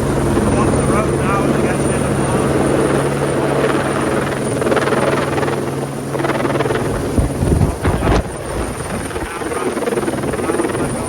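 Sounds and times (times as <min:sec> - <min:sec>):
helicopter rotor hum: 0:00.0 - 0:11.0
wind gusts buffeting microphone: 0:00.0 - 0:11.0.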